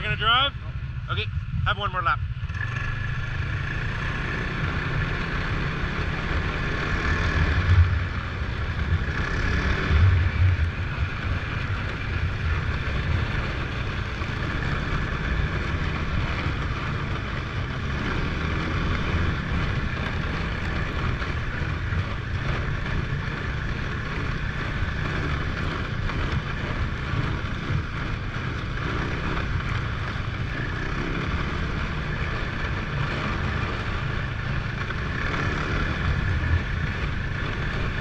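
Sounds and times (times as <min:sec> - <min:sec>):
snowmobile engine running: 0:00.0 - 0:38.0
wind rushing over microphone: 0:00.0 - 0:38.0.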